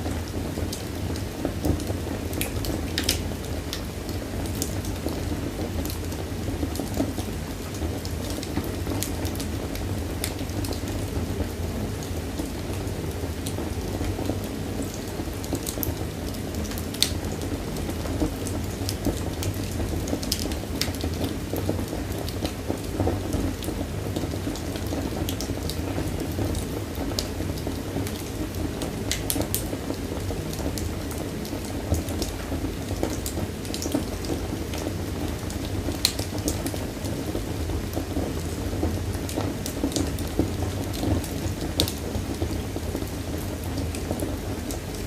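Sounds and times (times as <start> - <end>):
low rumble of flame: 0.0 - 45.0
wood fire crackling: 0.0 - 45.0.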